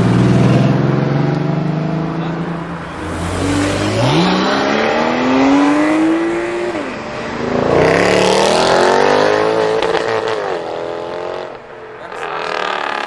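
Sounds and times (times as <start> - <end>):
car engine at full throttle: 0.0 - 13.0
cars accelerating hard: 0.0 - 13.0.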